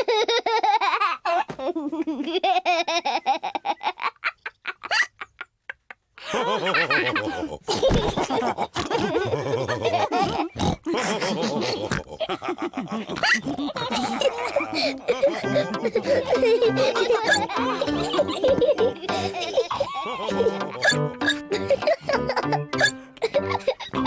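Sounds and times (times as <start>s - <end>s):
cartoon characters laughing: 0.0s - 24.0s.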